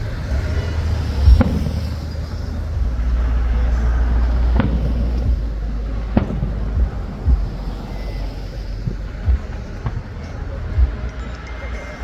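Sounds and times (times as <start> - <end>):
fireworks bangs: 0.0 - 12.0
low wind rumble on microphone: 0.0 - 12.0.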